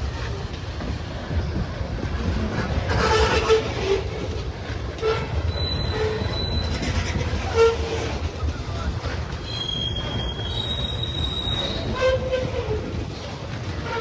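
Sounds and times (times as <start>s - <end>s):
train wheels rumbling on rail: 0.0s - 14.0s
wheels squeaking and squealing: 2.6s - 14.0s.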